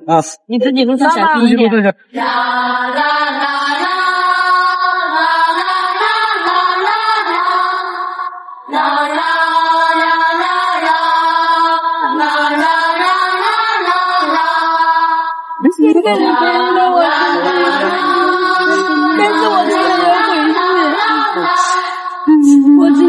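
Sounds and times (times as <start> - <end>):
slow song with held sung notes: 0.0 - 23.0.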